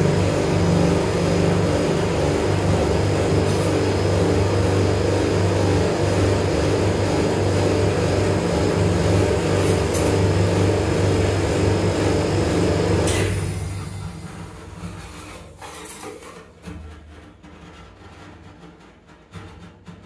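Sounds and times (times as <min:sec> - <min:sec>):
refrigeration unit humming: 0:00.0 - 0:16.3.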